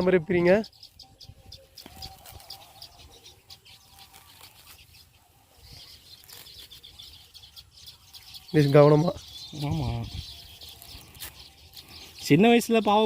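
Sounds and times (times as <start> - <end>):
dry grass nest rustling: 0.0 - 13.0
small birds chirping faintly: 0.0 - 13.0.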